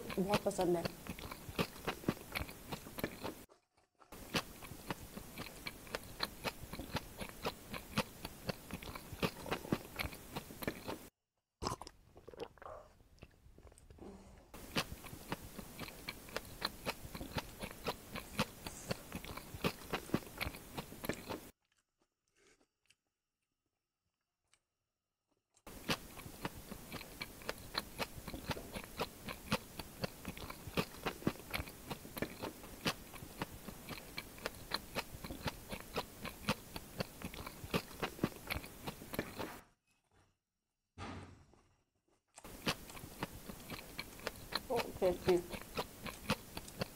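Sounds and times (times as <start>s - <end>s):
chewing crunchy raw onion: 0.0s - 23.0s, 25.7s - 39.6s, 42.4s - 46.9s.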